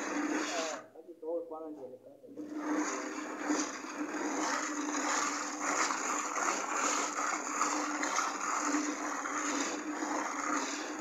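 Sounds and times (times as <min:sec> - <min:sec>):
hand float scraping wet plaster: 0:00.0 - 0:00.8, 0:02.4 - 0:11.0.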